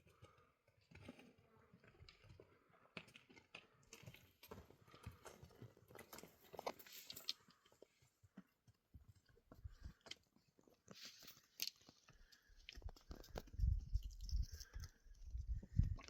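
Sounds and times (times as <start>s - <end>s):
faint crunching and clicking: 0.1s - 16.0s.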